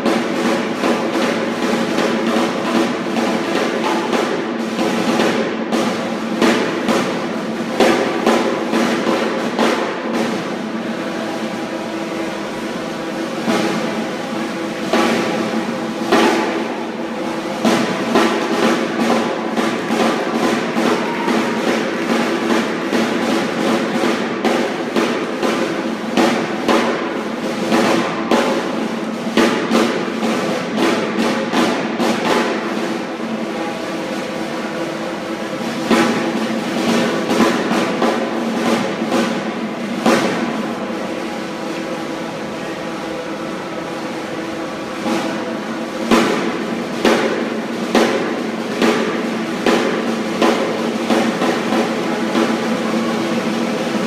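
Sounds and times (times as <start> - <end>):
snare drum rolls: 0.0 - 54.0.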